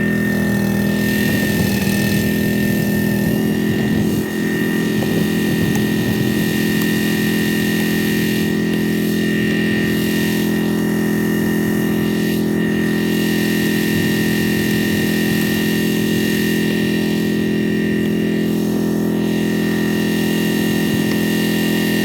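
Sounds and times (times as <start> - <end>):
high-pitched whine: 0.0 - 22.0
log splitter engine running: 0.0 - 22.0.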